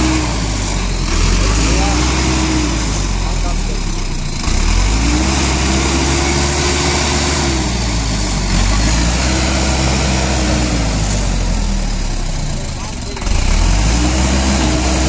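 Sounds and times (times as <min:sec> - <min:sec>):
heavy diesel engine revving: 0:00.0 - 0:15.0.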